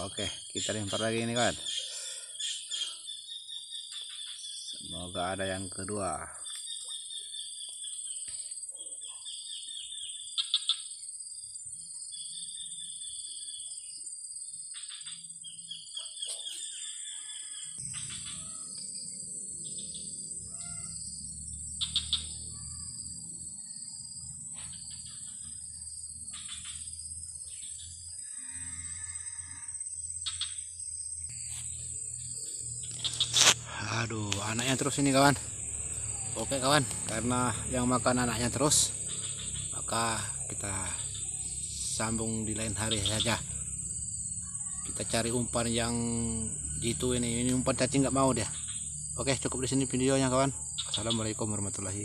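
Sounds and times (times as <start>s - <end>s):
insects chirping: 0.0s - 52.0s
insects droning: 0.0s - 52.0s.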